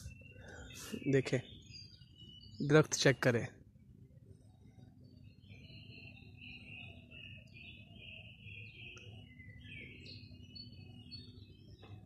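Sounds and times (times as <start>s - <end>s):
faint songbirds singing: 0.0s - 12.0s.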